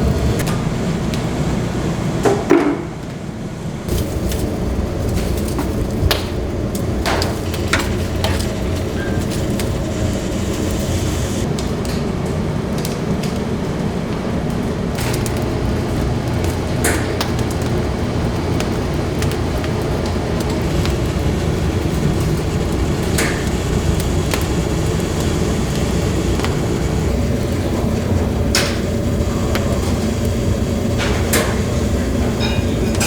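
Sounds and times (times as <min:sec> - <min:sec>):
kitchen machinery rumbling: 0:00.0 - 0:03.1, 0:03.7 - 0:12.8, 0:14.6 - 0:33.0.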